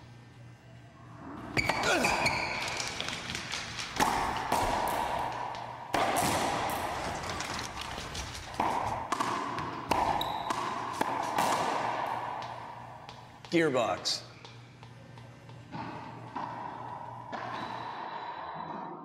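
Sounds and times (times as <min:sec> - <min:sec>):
racquetball hitting racquets and walls: 0:01.4 - 0:19.0.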